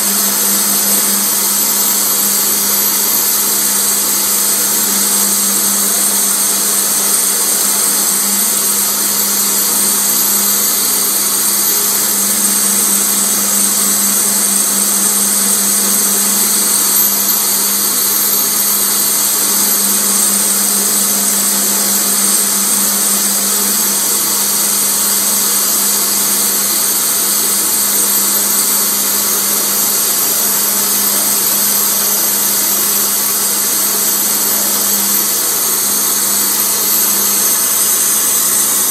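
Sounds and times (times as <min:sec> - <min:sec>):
polishing motor humming: 0:00.0 - 0:38.9.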